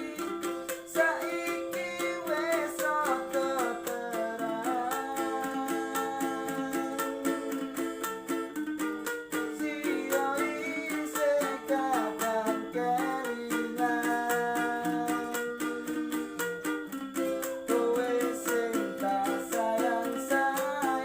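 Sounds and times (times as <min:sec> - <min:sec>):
person singing: 0:00.0 - 0:21.0
ukulele strumming: 0:00.0 - 0:21.0.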